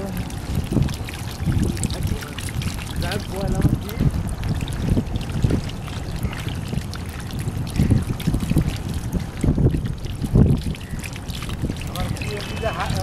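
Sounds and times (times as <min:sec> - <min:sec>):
muddy water sloshing: 0:00.0 - 0:13.0
wind rumbling on microphone: 0:00.0 - 0:13.0.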